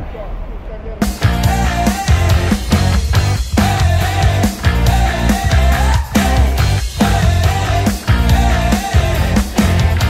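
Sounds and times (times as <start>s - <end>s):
rock music: 1.0s - 10.0s.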